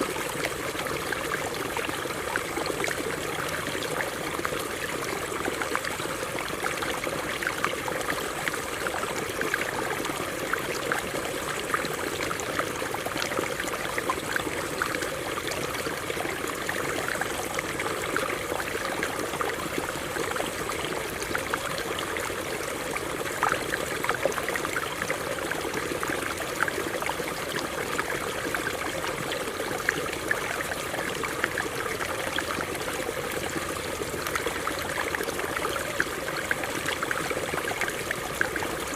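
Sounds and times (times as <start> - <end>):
water running over rocks: 0.0 - 38.9.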